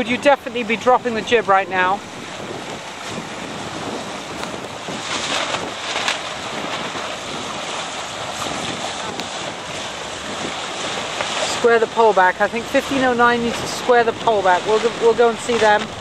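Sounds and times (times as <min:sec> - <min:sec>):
choppy water slapping: 0:00.0 - 0:16.0
wind buffeting microphone: 0:00.0 - 0:16.0.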